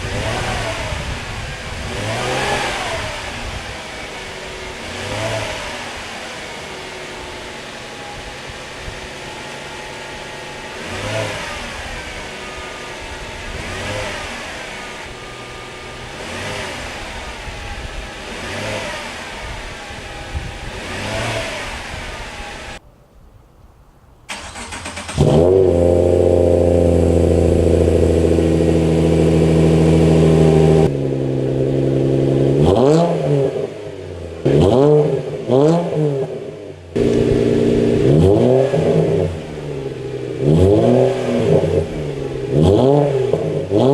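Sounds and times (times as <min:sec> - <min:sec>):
car engine revving: 0:00.0 - 0:22.8, 0:24.3 - 0:43.9.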